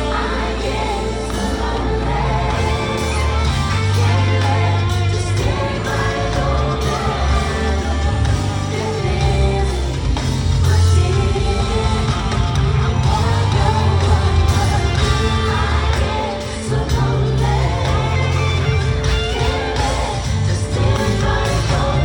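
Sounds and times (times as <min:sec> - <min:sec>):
live pop concert music: 0:00.0 - 0:22.0.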